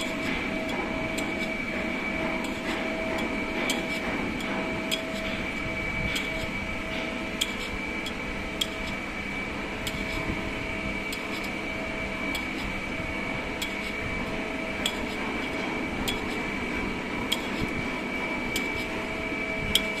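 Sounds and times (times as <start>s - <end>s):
mechanical hum with held tones: 0.0s - 20.0s.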